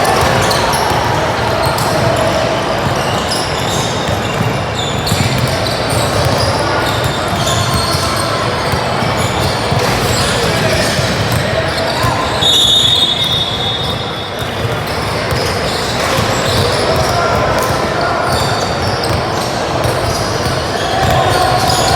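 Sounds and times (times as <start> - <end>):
basketball bouncing on court: 0.0 - 21.9.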